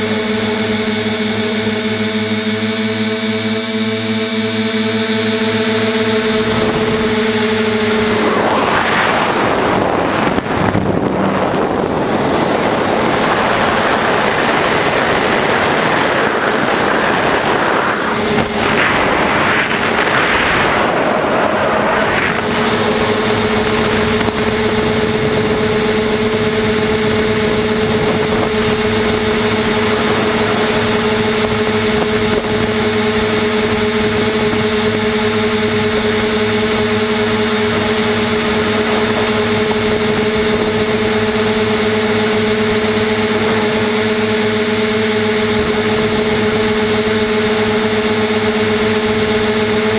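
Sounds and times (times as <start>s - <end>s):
drone motors humming: 0.0s - 49.9s
rushing noise: 5.3s - 49.9s.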